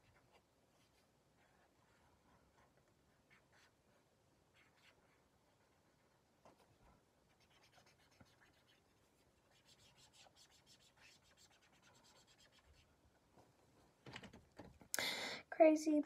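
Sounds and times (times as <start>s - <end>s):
marker scratching on paper: 0.0s - 13.0s.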